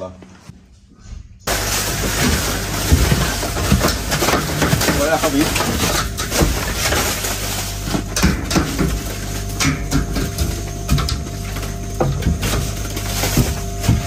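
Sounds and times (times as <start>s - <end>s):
steady machine hum: 0.0s - 14.0s
ice chunks clattering down: 1.5s - 14.0s.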